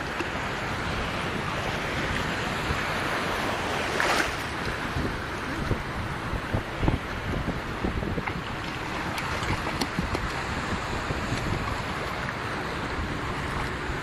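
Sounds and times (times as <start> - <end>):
water splashing and sloshing: 0.0 - 14.0
wind on microphone: 0.0 - 14.0.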